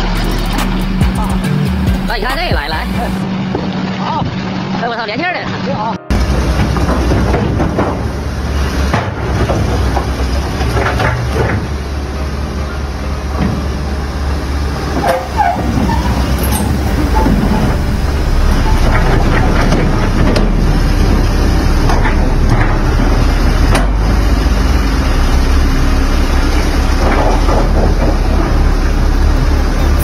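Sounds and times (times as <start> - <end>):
excavator diesel engine running: 0.0 - 3.9, 6.0 - 30.0.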